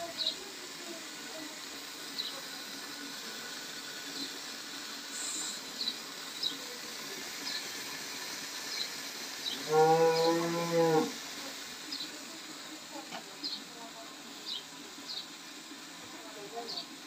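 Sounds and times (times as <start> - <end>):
fat sizzling on hot iron: 0.0 - 17.0.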